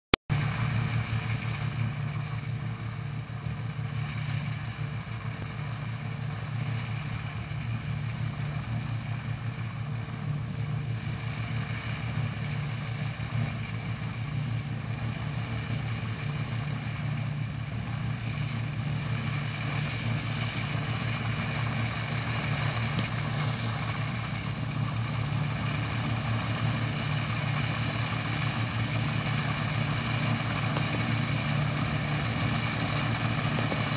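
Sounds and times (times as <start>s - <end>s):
combine harvester engine drone: 0.3s - 33.9s.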